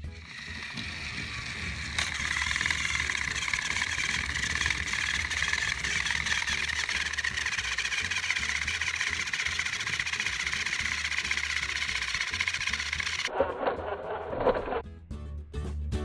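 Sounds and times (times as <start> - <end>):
toy train motors whirring: 0.0 - 13.3.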